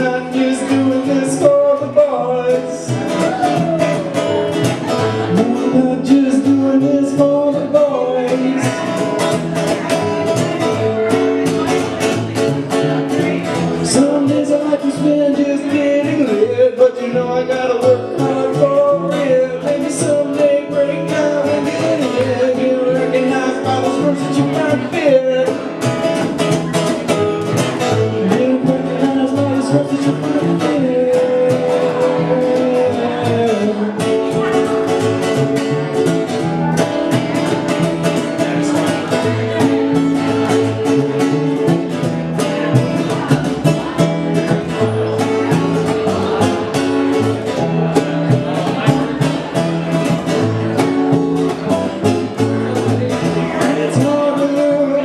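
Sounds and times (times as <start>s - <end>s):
man singing: 0.0s - 55.0s
plucked double bass: 0.0s - 55.0s
strummed acoustic guitar: 0.0s - 55.0s.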